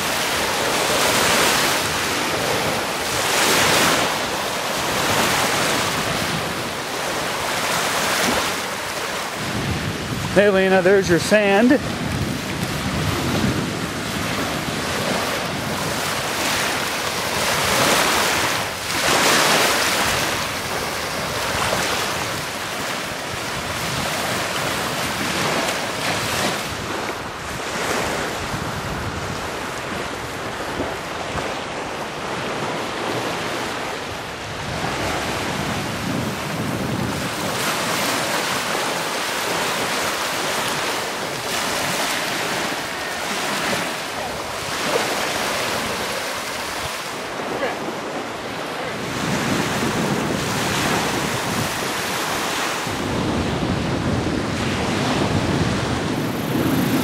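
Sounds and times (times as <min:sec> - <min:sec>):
waves washing onto sand beach: 0:00.0 - 0:57.0
wind buffeting microphone: 0:00.0 - 0:57.0.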